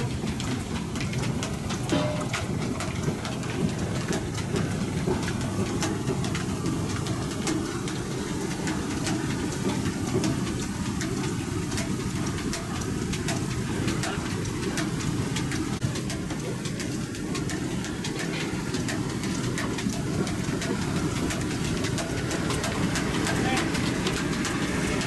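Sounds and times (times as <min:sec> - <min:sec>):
sawmill machinery rumble: 0:00.0 - 0:25.0.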